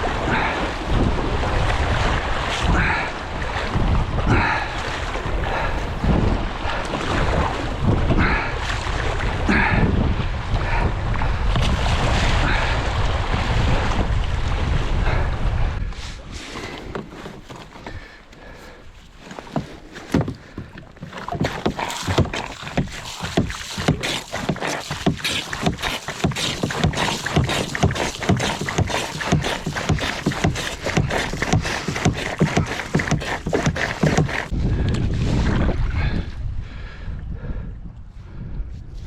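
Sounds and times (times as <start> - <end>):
water splashing around kayak: 0.0 - 36.2.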